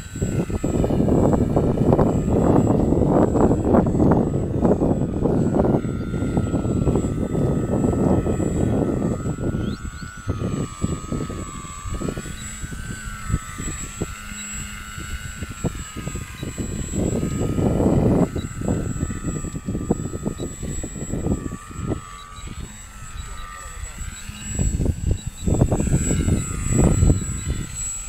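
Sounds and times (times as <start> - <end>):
model airplane motor whining: 0.0 - 28.0
wind buffeting microphone: 0.0 - 28.0.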